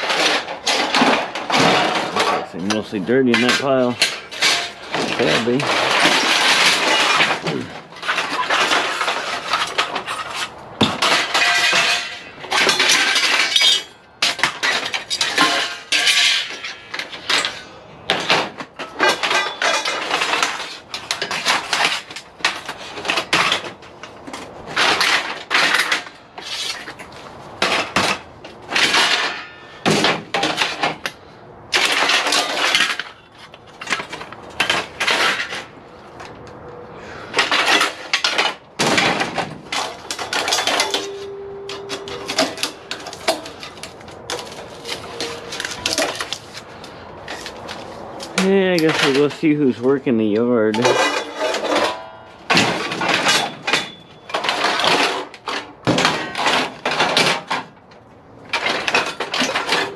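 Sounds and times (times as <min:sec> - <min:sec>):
aluminum scrap clanking: 0:00.0 - 0:35.8, 0:37.0 - 0:49.4, 0:50.8 - 0:57.8, 0:58.4 - 0:59.9.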